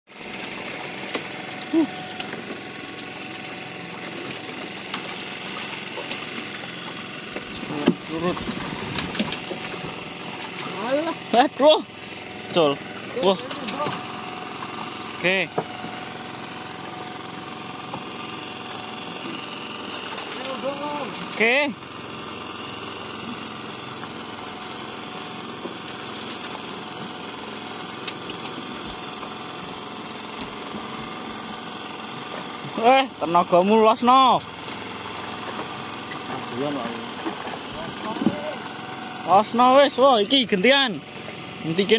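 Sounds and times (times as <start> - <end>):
small engine idling: 0.1 - 41.9.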